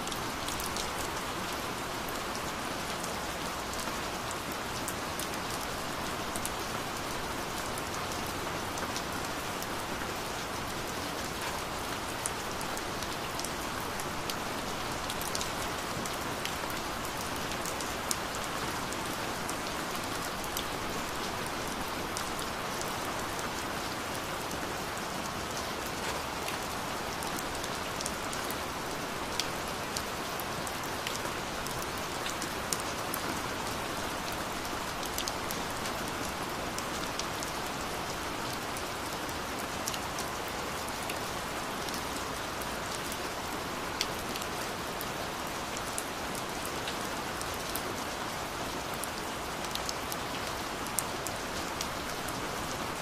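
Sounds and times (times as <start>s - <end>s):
gentle rain falling: 0.0s - 53.0s
raindrops ticking on a surface: 0.1s - 53.0s.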